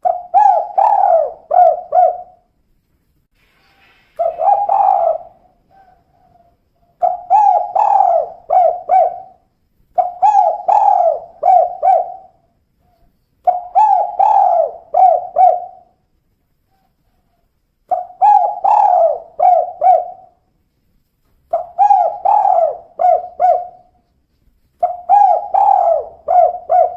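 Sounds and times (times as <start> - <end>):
dove cooing: 0.0 - 2.5, 4.2 - 16.0, 16.7 - 20.4, 21.5 - 24.2, 24.8 - 26.9.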